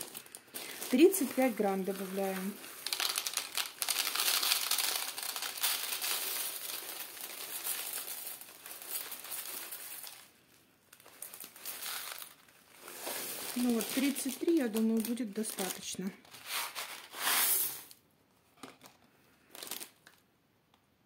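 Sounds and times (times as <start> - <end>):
flakes rattling into plastic tub: 0.0 - 10.3, 11.0 - 18.0, 19.5 - 20.2
plastic bag crinkling: 0.0 - 18.0, 19.4 - 20.2.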